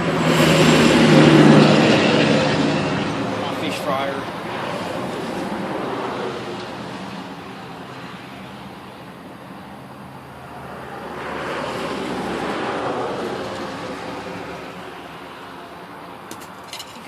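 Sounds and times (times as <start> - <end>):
road vehicle driving past: 0.0 - 16.3.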